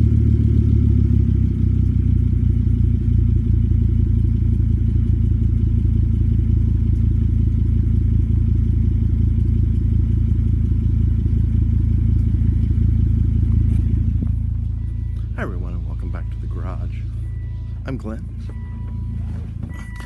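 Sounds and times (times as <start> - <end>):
car engine idling: 0.0 - 20.0
deep exhaust rumble: 0.0 - 20.0.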